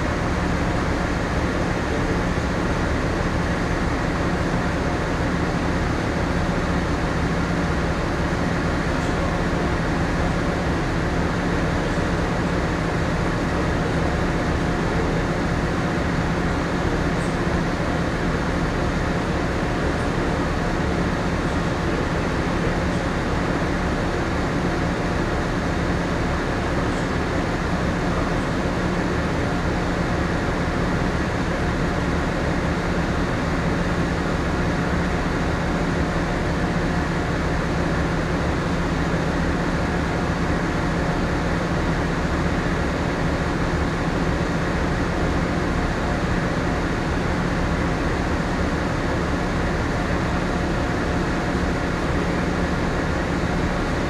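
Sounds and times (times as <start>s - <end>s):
ship machinery and ventilation hum: 0.0s - 54.0s.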